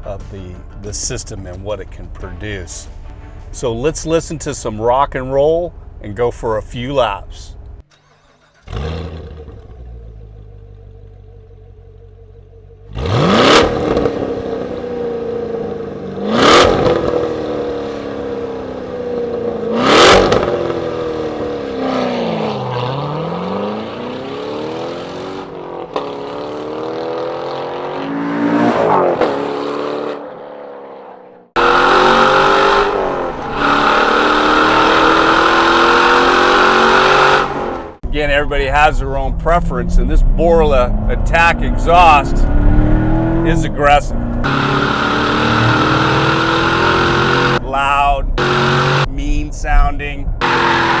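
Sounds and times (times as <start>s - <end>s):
sports car engine revving: 8.6s - 51.0s.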